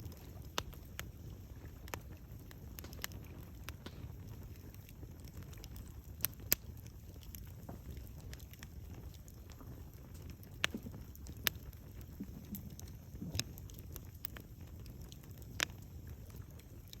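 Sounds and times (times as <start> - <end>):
campfire crackling pops: 0.0 - 17.0
fire low rumble: 0.0 - 17.0.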